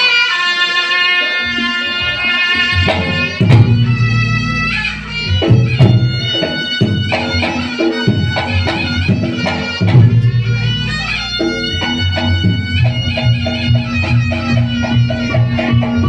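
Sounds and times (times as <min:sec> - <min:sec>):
shrill shawm melody: 0:00.0 - 0:16.0
gong percussion: 0:01.3 - 0:16.0
drums: 0:01.4 - 0:16.0.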